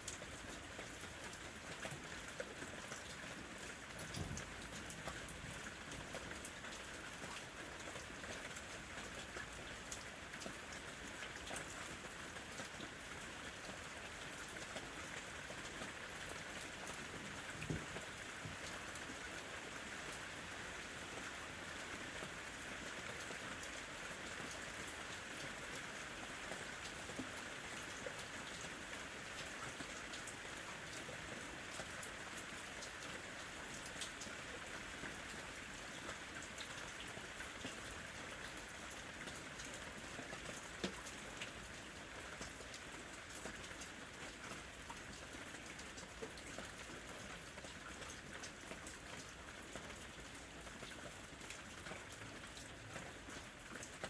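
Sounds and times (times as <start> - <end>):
rain on a window: 0.0 - 54.0.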